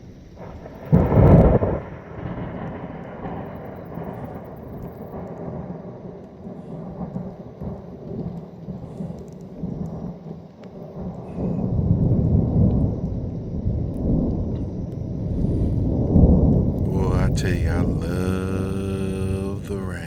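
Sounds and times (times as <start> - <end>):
steady rain: 0.0 - 20.0
thunder rumbling: 0.3 - 20.0.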